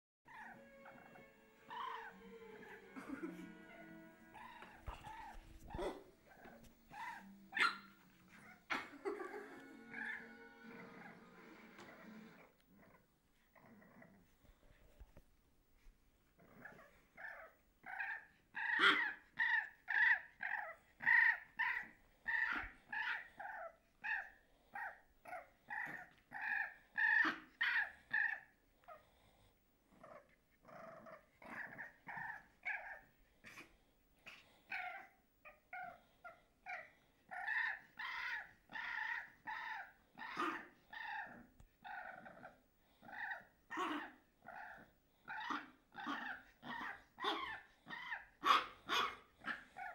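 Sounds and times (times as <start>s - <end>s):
puppy play-growling: 0.3s - 15.2s, 16.2s - 49.9s.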